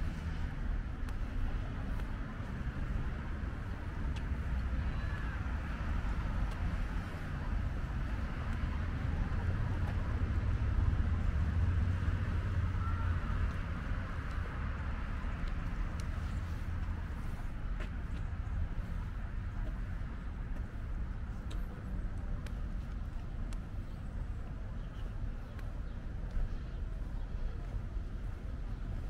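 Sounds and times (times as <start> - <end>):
low traffic rumble: 0.0 - 29.0.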